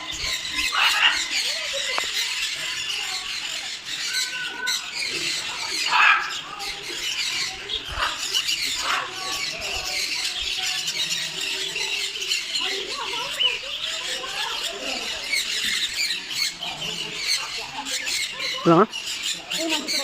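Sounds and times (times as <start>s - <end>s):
bird squawks: 0.0s - 20.0s
birds chattering and chirping: 0.0s - 20.0s.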